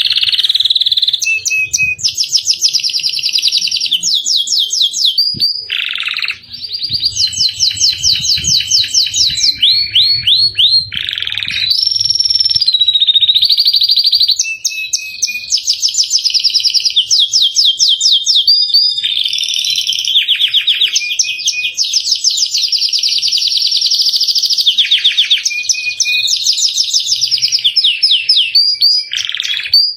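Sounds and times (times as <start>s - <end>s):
canary singing: 0.0s - 29.9s.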